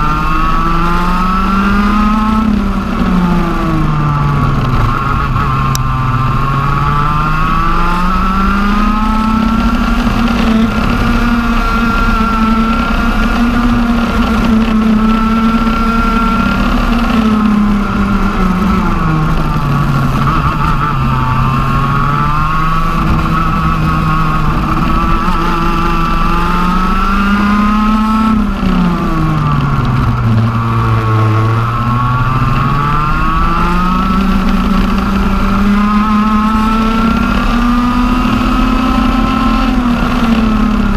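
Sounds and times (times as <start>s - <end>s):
two-stroke kart engine racing: 0.0s - 40.9s.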